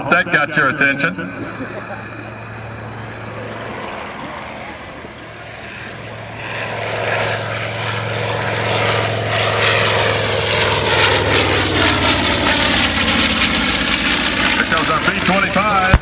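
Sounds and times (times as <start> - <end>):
propeller plane droning past: 0.0 - 16.0.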